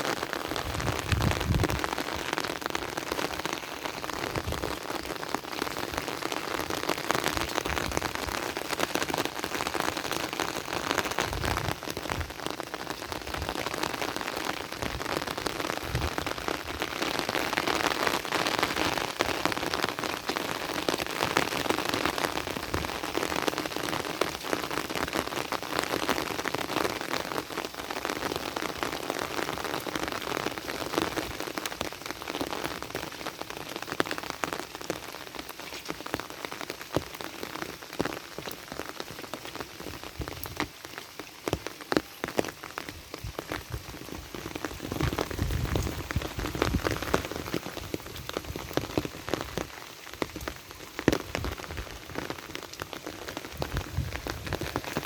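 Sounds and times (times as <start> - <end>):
heavy rain on hard surface: 0.0 - 55.0.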